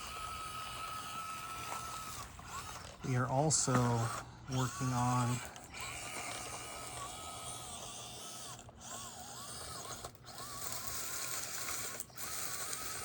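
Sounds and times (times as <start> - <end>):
small electric motor and gears whining: 0.0 - 13.0.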